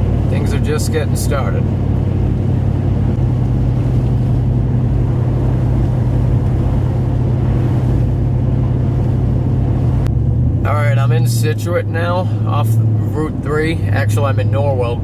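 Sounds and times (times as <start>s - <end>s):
engine and tyre drone in car cabin: 0.0s - 15.0s.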